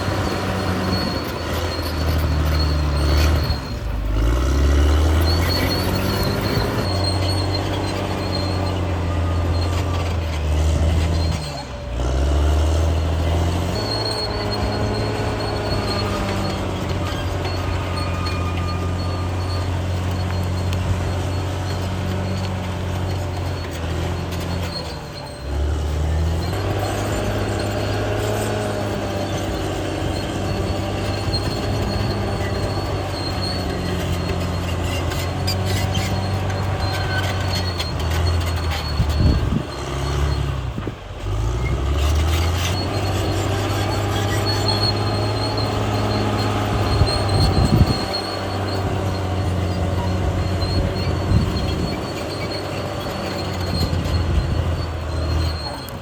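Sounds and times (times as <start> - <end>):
bulldozer diesel engine running: 0.0 - 56.0
high squeal from steel tracks: 0.0 - 56.0.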